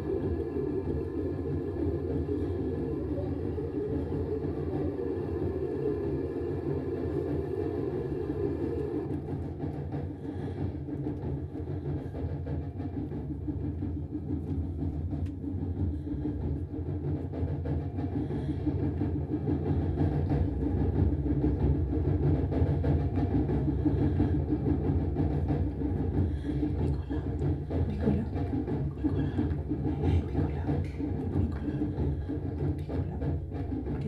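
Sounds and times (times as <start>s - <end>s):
low rumbling drone: 0.0s - 34.0s.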